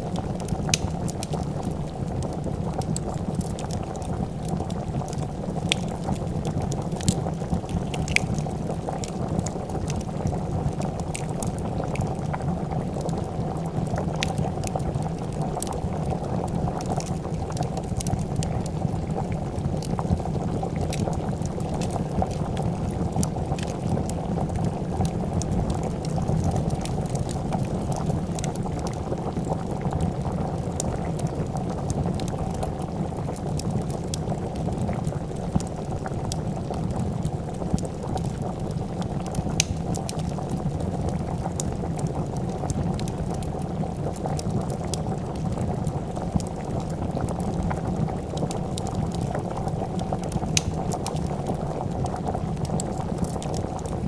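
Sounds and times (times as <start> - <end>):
soup bubbling in a pot: 0.0 - 54.0
wood fire popping and crackling: 0.0 - 54.0.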